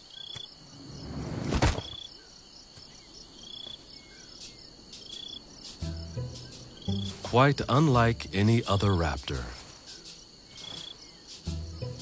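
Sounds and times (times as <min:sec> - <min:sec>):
crickets chirping: 0:00.0 - 0:12.0
steady insect hiss: 0:00.0 - 0:12.0.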